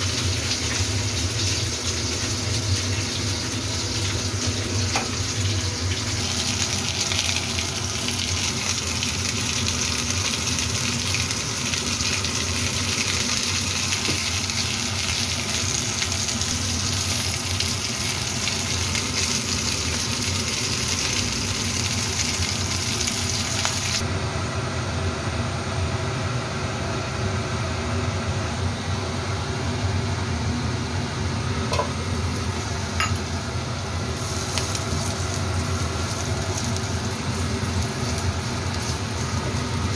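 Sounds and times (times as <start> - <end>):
food sizzling in hot oil: 0.0 - 24.0, 31.7 - 39.9.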